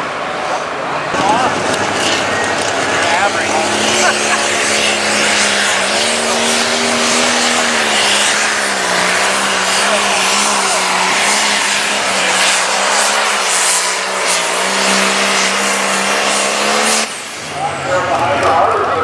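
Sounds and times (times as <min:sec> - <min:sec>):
pulling tractor engine at high revs: 0:00.0 - 0:19.0.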